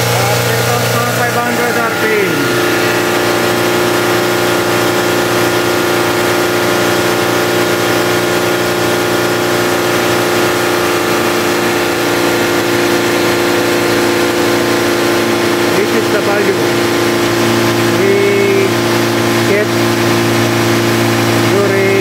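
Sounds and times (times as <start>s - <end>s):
car engine running at high revs: 0.0s - 22.0s.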